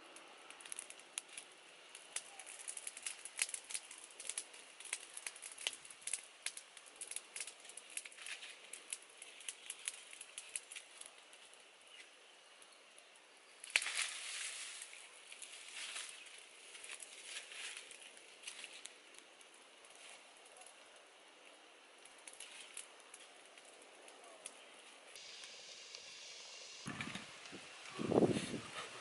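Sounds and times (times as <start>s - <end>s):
wood fire crackling and popping: 0.0s - 29.0s
dry leaves and twigs rustling: 0.1s - 29.0s.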